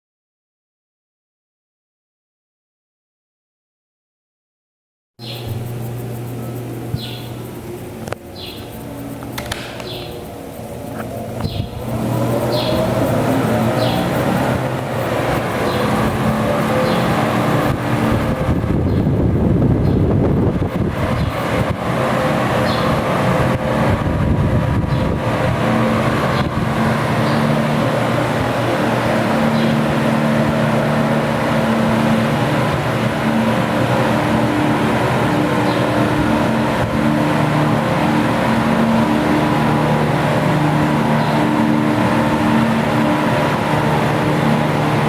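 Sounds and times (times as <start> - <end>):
electric fan running: 5.2 - 45.0.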